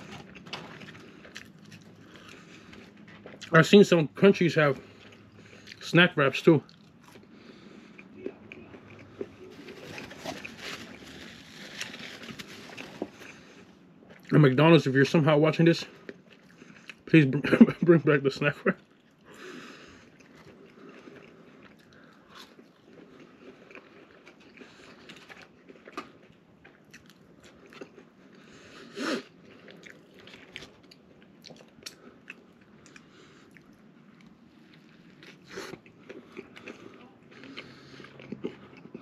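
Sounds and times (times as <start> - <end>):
chewing a burger: 0.0 - 14.7, 15.8 - 39.0.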